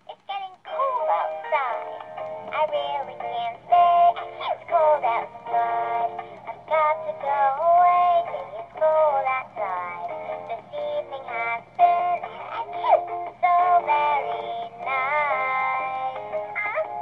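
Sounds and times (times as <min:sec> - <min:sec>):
toy singing in synthetic voice: 0:00.1 - 0:17.0.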